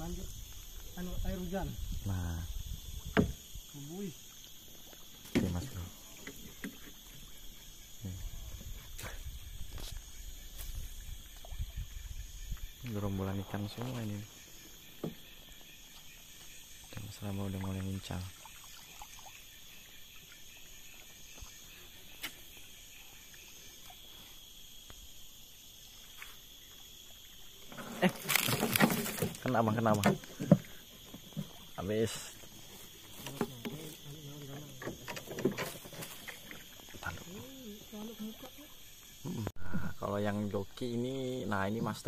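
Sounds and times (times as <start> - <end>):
chorus of forest insects: 0.0 - 42.0.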